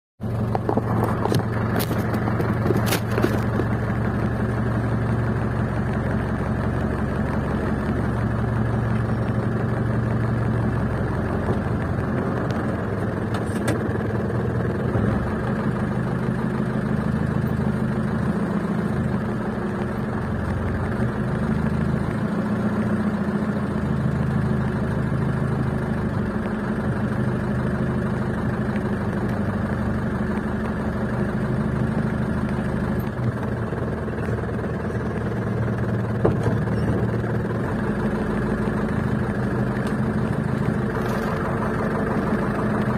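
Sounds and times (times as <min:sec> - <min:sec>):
truck engine droning: 0:00.2 - 0:42.9.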